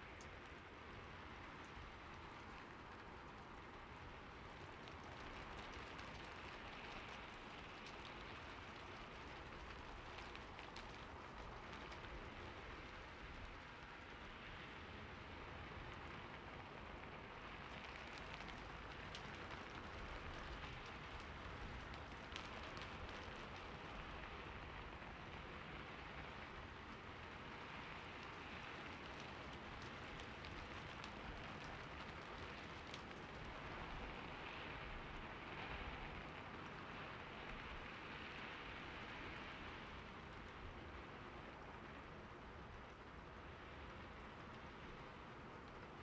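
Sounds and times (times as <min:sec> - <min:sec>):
rain on a roof: 0:00.0 - 0:46.0.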